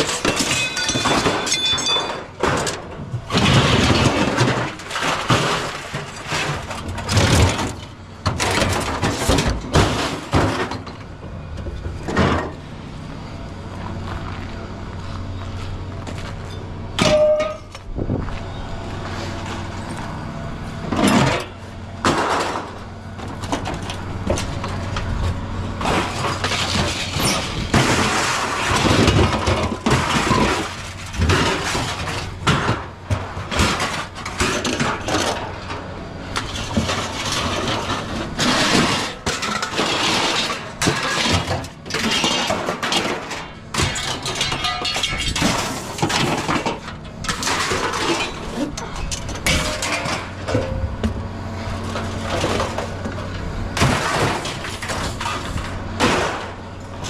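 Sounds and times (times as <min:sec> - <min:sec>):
scrap metal clattering: 0:00.0 - 0:12.6, 0:20.8 - 0:51.0, 0:51.9 - 0:57.0.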